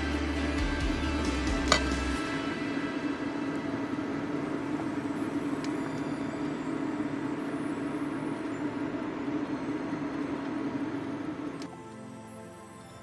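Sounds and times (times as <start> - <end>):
induction hob fan rushing: 0.0 - 11.7
constant low hum: 0.0 - 12.1.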